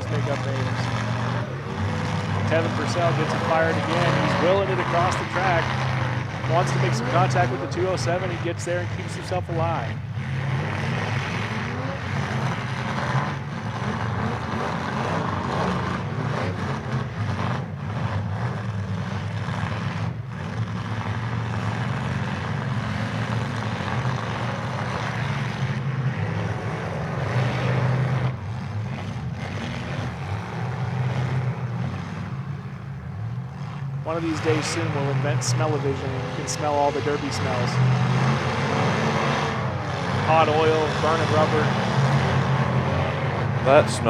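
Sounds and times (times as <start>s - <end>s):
car engines running hard: 0.0s - 44.0s.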